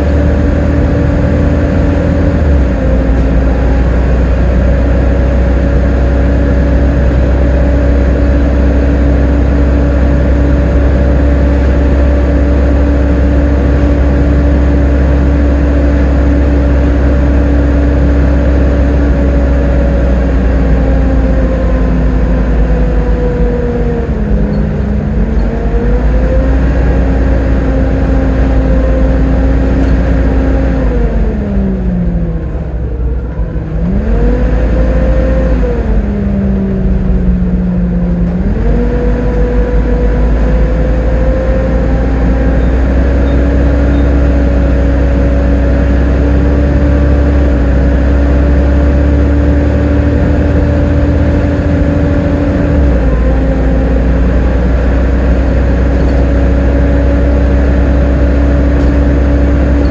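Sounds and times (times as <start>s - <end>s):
bus engine rumble with whine: 0.0s - 59.9s.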